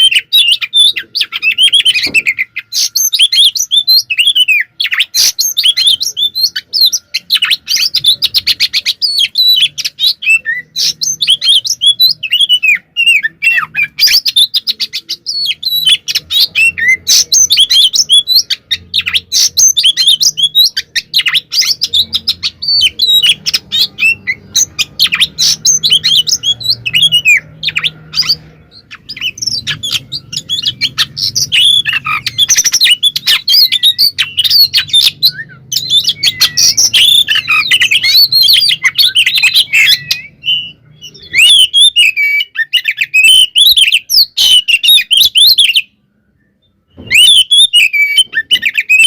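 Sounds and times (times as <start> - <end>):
bird singing rapid chirps: 0.0 - 49.0.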